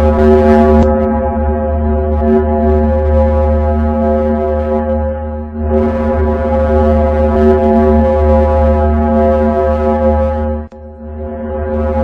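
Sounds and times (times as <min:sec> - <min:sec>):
deep droning tone: 0:00.0 - 0:12.0.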